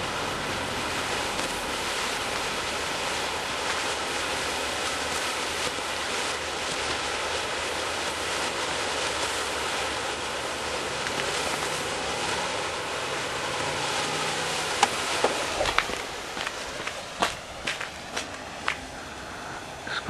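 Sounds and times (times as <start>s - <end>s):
smoke mix burning with rushing hiss: 0.0s - 20.0s.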